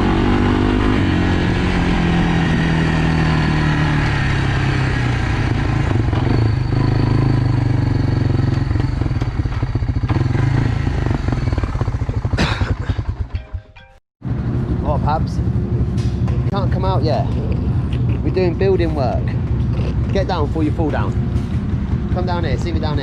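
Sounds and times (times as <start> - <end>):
quad bike engine running: 0.0 - 13.6, 14.4 - 23.0.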